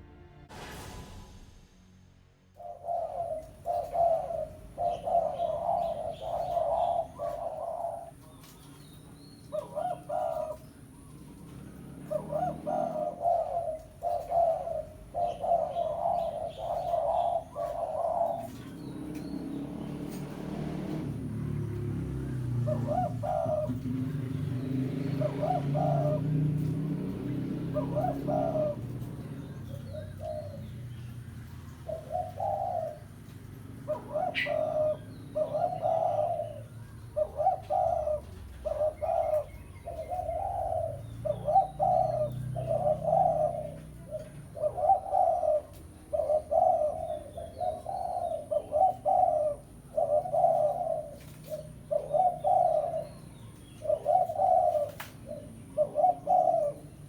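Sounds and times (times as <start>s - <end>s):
dove cooing: 2.6s - 57.0s.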